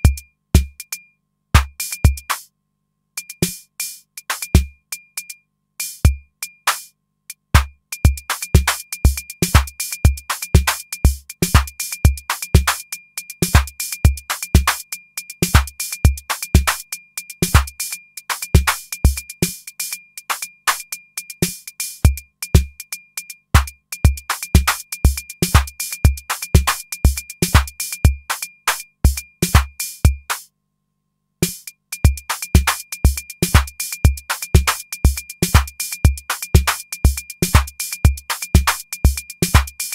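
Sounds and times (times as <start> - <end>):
drum machine pattern: 0.0 - 2.5, 3.2 - 30.5, 31.4 - 39.9.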